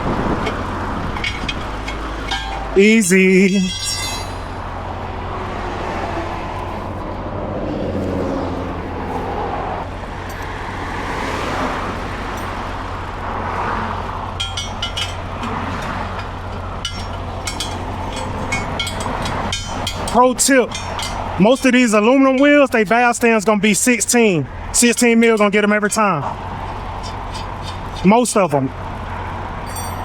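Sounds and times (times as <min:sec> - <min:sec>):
traffic passing close by: 0:00.0 - 0:30.0.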